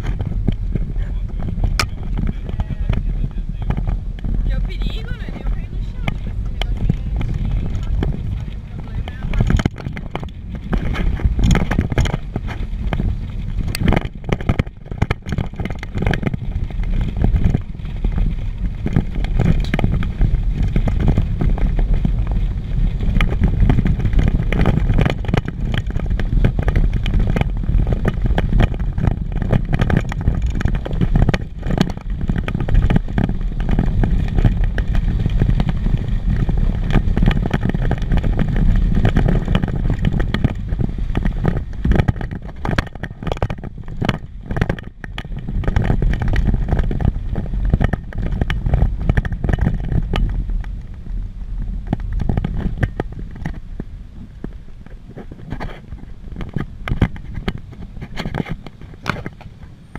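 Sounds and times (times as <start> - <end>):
cargo bed rattling and jolting: 0.0 - 50.6
truck engine and road rumble: 0.0 - 59.9.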